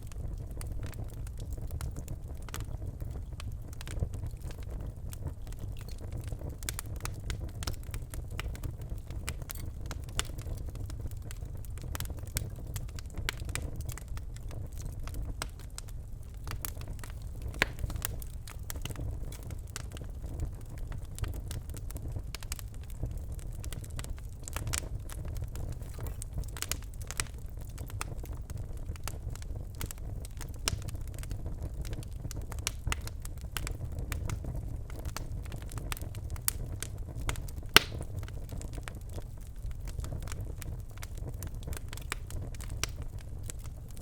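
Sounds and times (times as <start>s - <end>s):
fire crackling and popping: 0.0s - 44.0s
fire rumbling: 0.0s - 44.0s.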